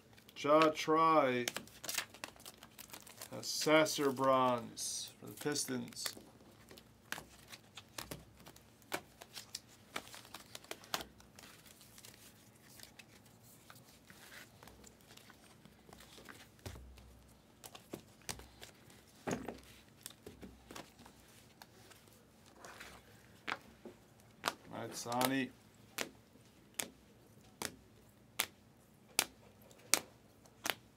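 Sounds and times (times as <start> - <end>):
plastic sleeve crinkling: 0.0 - 26.1.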